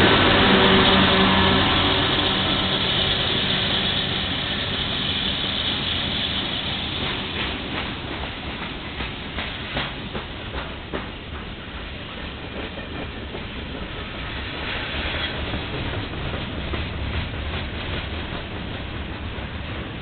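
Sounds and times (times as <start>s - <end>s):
freight cars rumbling on rails: 0.0s - 20.0s.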